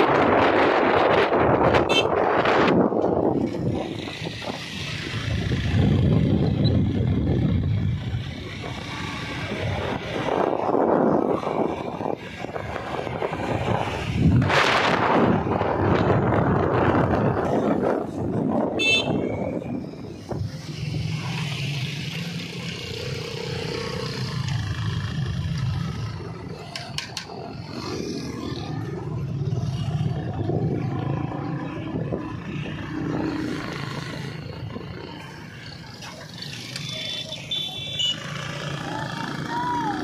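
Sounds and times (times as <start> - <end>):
loud rush of noise: 0.0 - 36.8
road traffic: 0.0 - 40.0.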